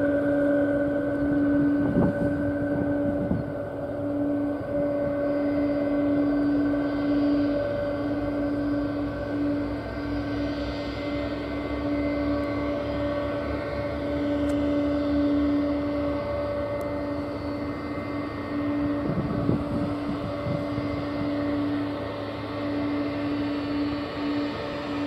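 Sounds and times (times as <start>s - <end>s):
jet engines whining: 0.0s - 25.0s.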